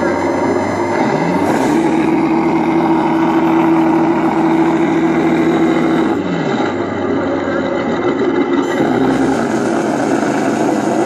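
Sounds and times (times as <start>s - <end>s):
toy tank engine sound: 0.0s - 11.0s.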